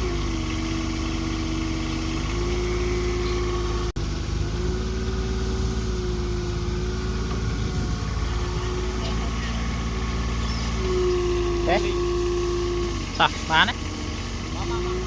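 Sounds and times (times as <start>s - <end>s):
construction machine engine running: 0.0s - 15.0s.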